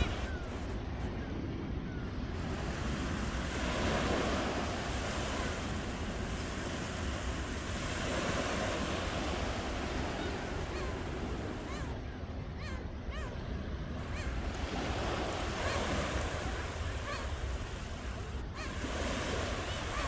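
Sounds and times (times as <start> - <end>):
ocean waves washing ashore: 0.0 - 20.0.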